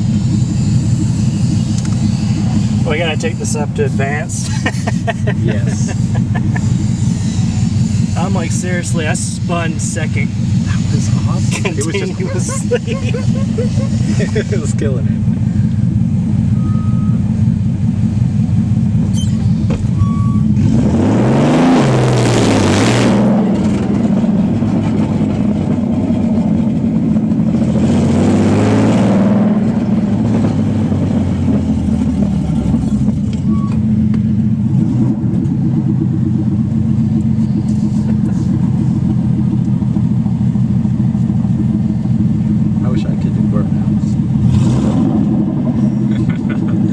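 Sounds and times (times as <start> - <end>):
car engine revving without exhaust: 0.0 - 46.9.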